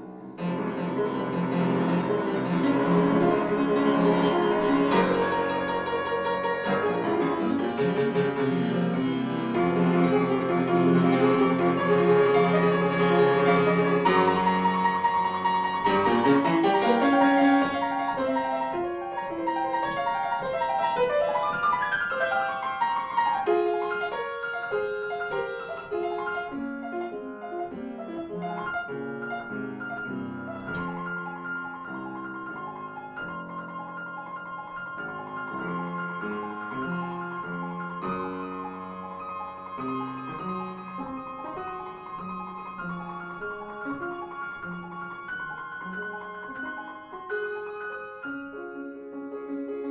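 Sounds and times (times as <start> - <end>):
classical piano piece: 0.0 - 49.9.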